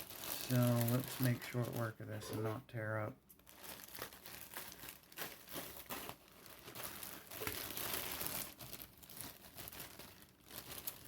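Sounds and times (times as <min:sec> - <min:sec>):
plastic bag crinkling: 0:00.0 - 0:02.5, 0:03.4 - 0:11.0.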